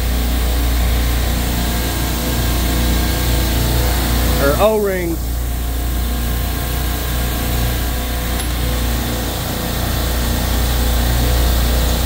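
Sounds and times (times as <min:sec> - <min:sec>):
refrigeration machinery hum: 0:00.0 - 0:12.0.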